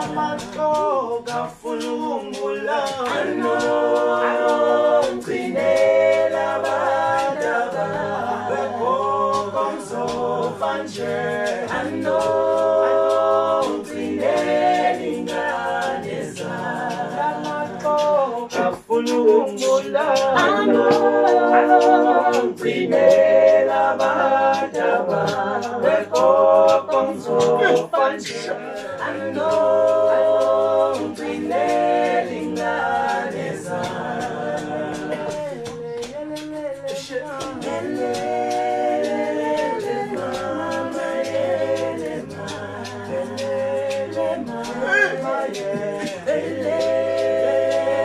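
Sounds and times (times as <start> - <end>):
a cappella group singing harmony: 0.0 - 48.0.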